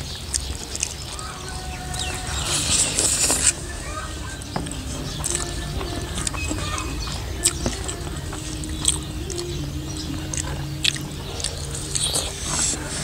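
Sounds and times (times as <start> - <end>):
faint background music: 0.0 - 13.0
person chewing food: 0.0 - 13.0.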